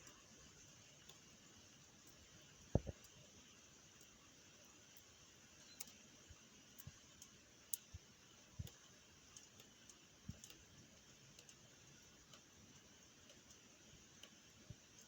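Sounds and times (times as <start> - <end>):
raindrops ticking: 0.0 - 1.3, 2.0 - 3.2, 3.9 - 4.2, 4.9 - 15.0.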